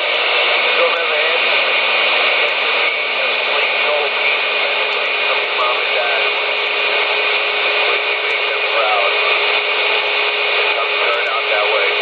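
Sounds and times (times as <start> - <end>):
faint garbled radio voices: 0.0 - 12.0
radio static: 0.0 - 12.0.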